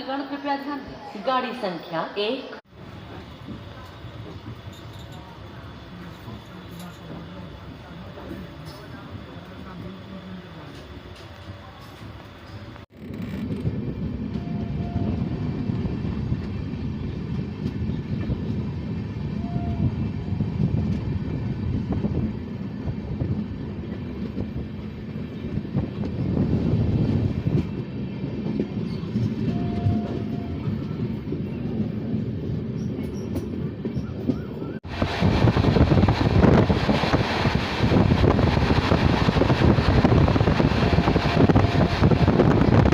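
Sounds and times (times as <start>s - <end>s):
train rumbling: 0.0s - 42.9s.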